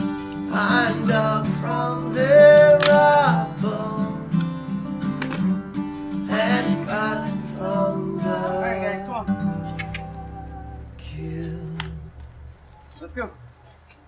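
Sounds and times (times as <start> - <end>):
acoustic guitar song with singing: 0.0 - 14.0.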